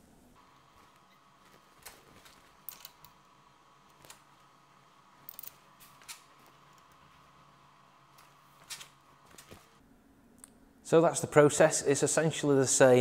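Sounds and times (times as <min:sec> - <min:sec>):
faint steady high hum: 0:00.0 - 0:13.0.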